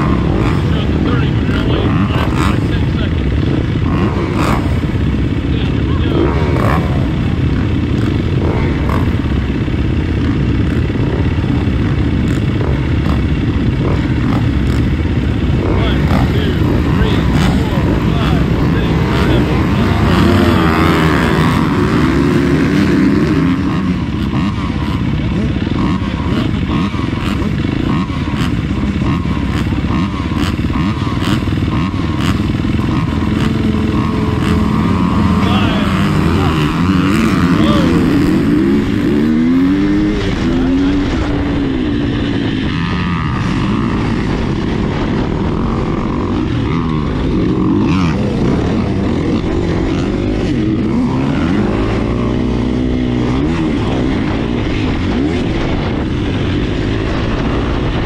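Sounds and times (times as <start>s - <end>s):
dirt bike engine revving: 0.0s - 58.0s
other dirt bikes running: 0.0s - 58.0s.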